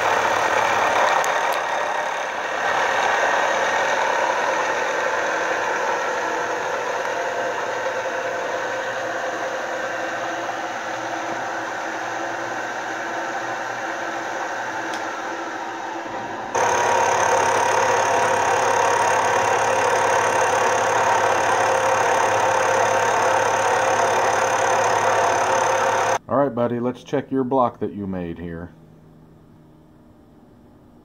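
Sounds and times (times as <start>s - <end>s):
milling machine cutting aluminum: 0.0s - 26.2s.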